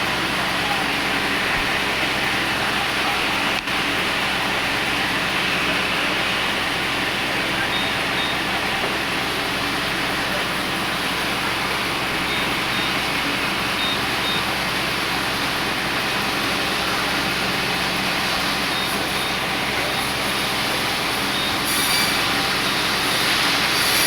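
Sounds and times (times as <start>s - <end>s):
power saw running: 0.0s - 24.0s.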